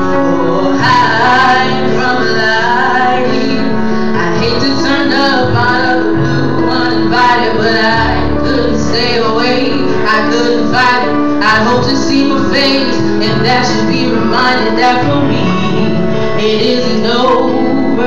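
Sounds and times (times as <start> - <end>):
instrumental accompaniment: 0.0 - 18.0
woman singing into a microphone: 0.0 - 18.0.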